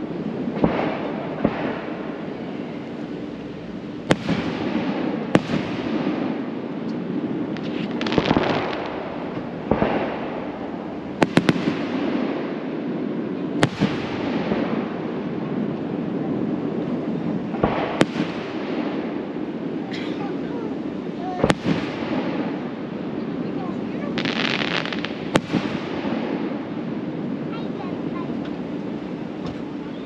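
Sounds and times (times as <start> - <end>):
fireworks bangs: 0.0 - 2.6, 3.6 - 30.0
crackling firework sparks: 0.0 - 30.0.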